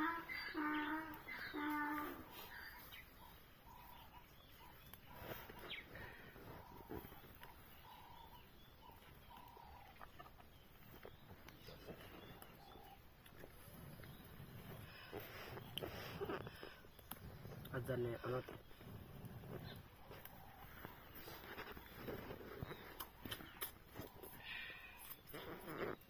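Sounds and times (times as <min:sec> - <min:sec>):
bird calling faintly: 0:00.0 - 0:26.0.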